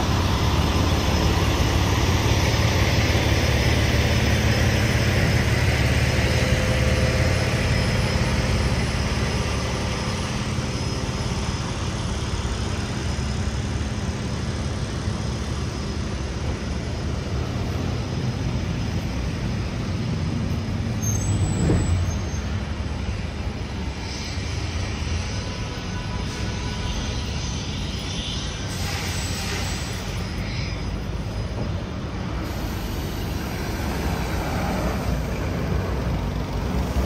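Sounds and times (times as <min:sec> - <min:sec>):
city street traffic: 0:00.0 - 0:37.0.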